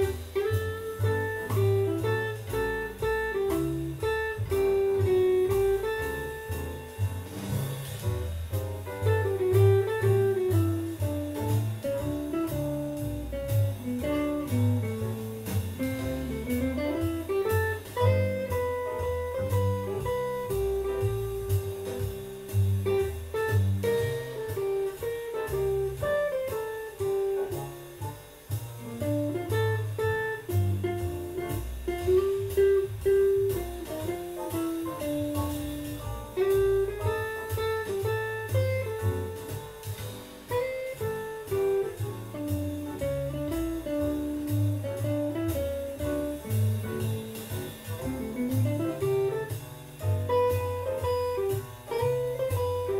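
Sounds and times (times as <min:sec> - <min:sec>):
bass line: 0:00.0 - 0:52.9
electric guitar jazz-blues lines: 0:00.0 - 0:52.9.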